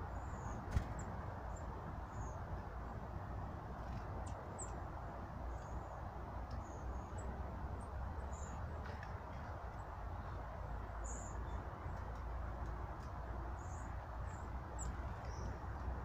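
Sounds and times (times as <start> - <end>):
small birds calling: 0.0 - 3.1, 3.9 - 16.0.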